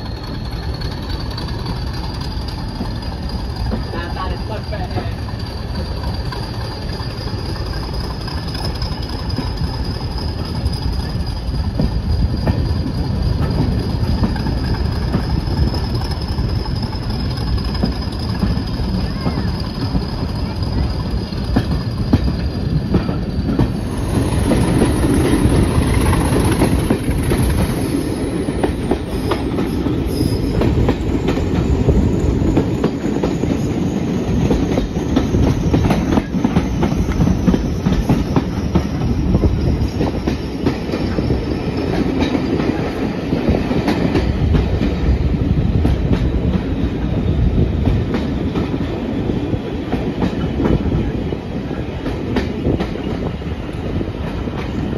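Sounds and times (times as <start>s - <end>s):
train running noise: 0.0s - 54.9s
wheels clicking over rail joints: 0.0s - 54.9s.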